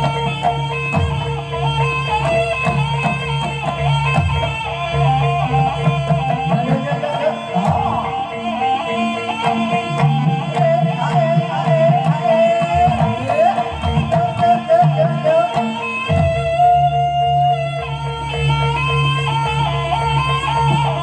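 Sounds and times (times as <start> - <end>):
drum strokes: 0.0 - 17.6
gliding melody line: 0.0 - 21.0.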